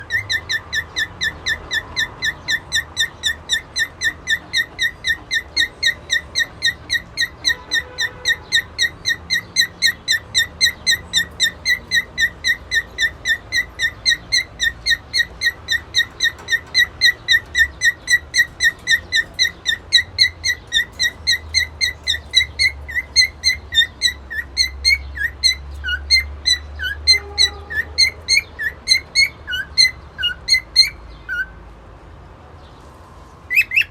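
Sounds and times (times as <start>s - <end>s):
cockatiel chirping: 0.0s - 31.5s, 33.5s - 33.9s.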